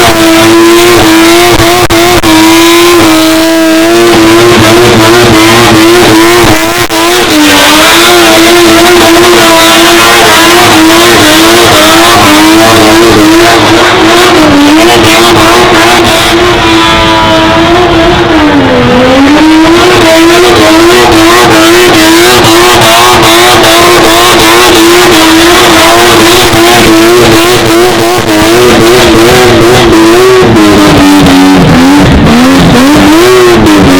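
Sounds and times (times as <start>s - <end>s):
rotary engine at high revs: 0.0s - 33.9s.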